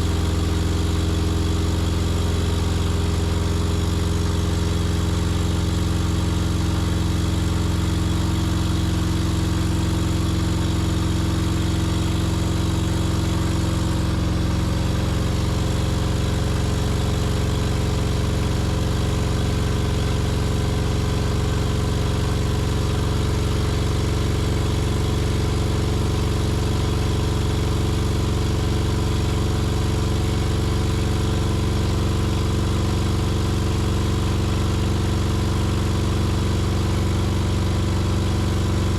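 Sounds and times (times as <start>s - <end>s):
car engine at high idle: 0.0s - 38.9s.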